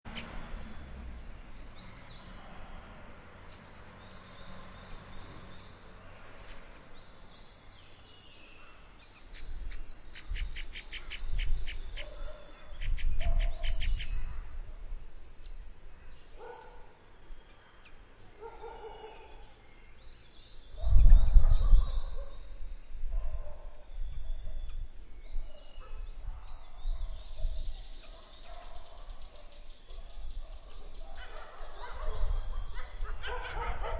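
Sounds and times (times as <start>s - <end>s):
birds singing and calling: 0.0s - 33.9s.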